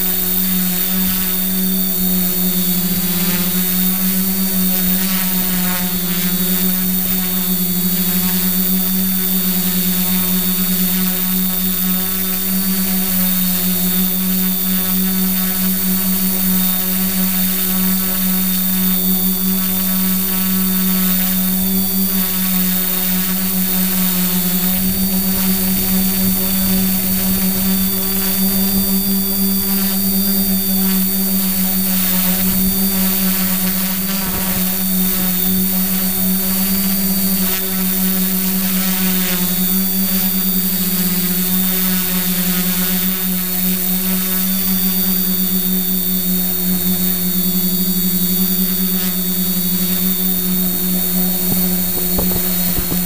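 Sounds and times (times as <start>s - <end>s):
drone motors humming: 0.0s - 53.0s.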